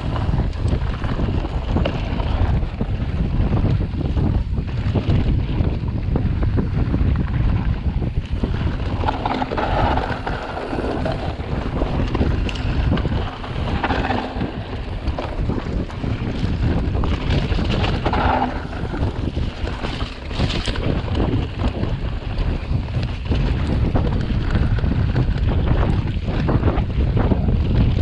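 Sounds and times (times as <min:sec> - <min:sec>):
bike knocks and rattles: 0:00.0 - 0:28.0
steady rumble: 0:00.0 - 0:28.0
wind buffeting microphone: 0:00.0 - 0:28.0.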